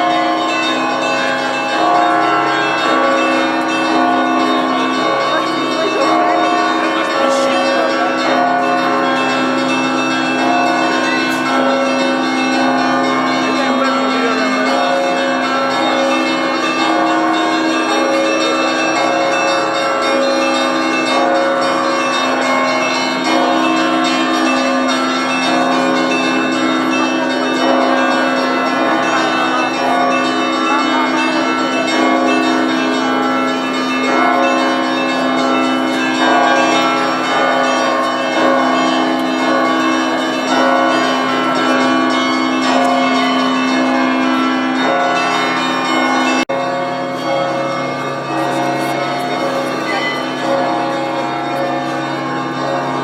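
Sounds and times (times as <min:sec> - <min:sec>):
church bells pealing: 0:00.0 - 0:53.0
low hum of large bells: 0:00.0 - 0:53.0.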